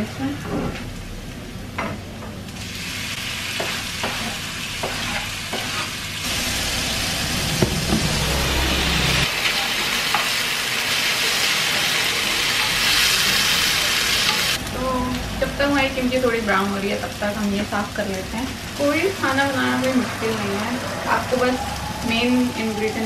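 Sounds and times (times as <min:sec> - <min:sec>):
food sizzling in a frying pan: 0:02.4 - 0:23.0.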